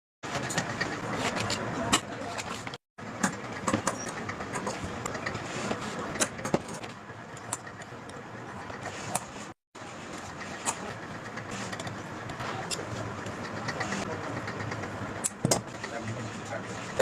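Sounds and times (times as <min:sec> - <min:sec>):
steady mechanical hum: 0:00.2 - 0:17.0.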